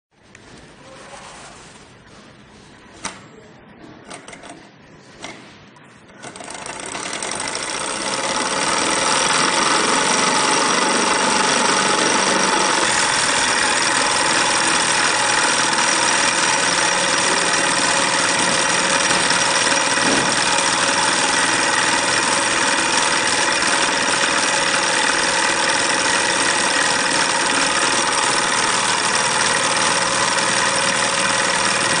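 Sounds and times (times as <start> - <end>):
flywheel clicks: 4.0 - 4.6, 6.1 - 32.0
engine mechanical clatter: 6.1 - 32.0.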